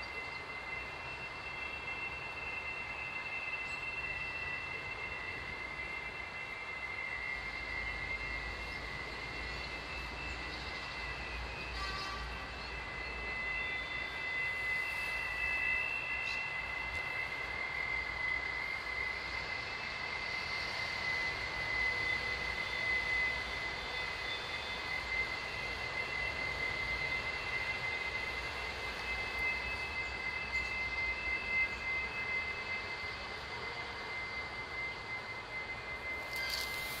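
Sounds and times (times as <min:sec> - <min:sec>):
high-pitched drone: 0:00.0 - 0:37.0.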